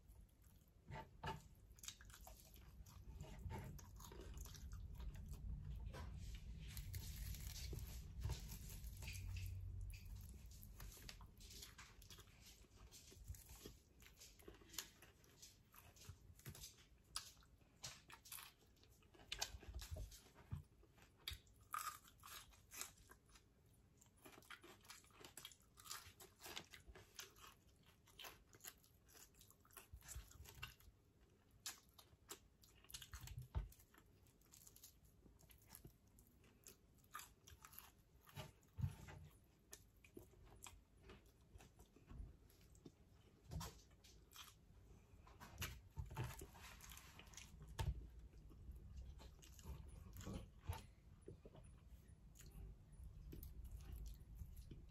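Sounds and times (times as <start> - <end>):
person chewing and crunching food: 0.0 - 54.9.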